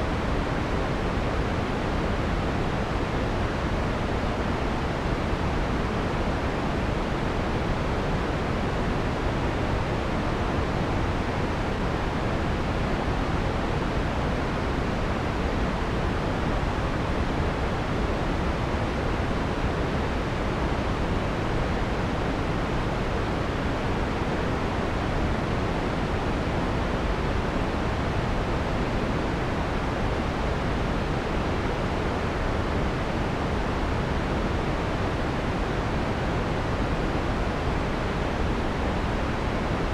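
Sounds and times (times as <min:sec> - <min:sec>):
filtered white noise hiss: 0:00.0 - 0:39.9.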